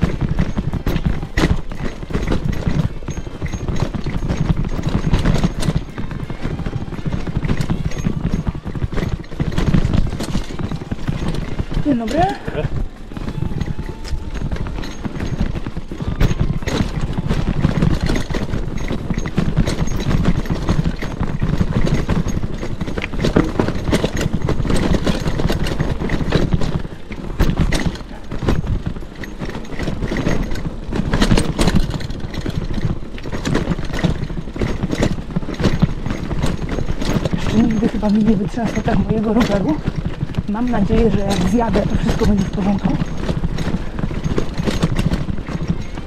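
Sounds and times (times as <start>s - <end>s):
bike rattling over rocks: 0.0s - 46.0s.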